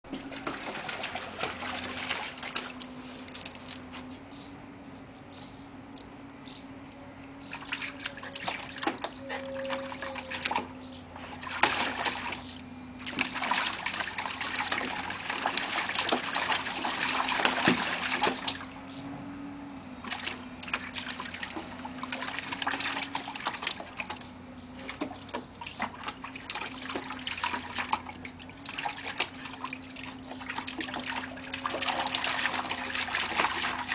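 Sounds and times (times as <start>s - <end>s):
puppy splashing water: 0.0s - 4.2s, 7.5s - 18.8s, 20.0s - 33.9s
steady low hum: 0.1s - 33.9s.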